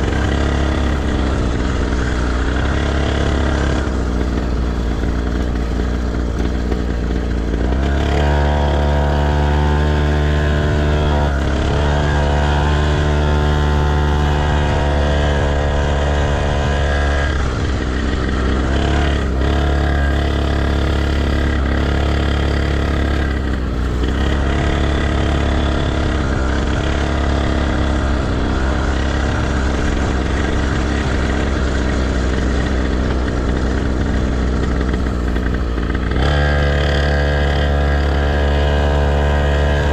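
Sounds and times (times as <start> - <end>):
deep steady rumble: 0.0 - 39.9
motorcycle engine running: 0.0 - 39.9.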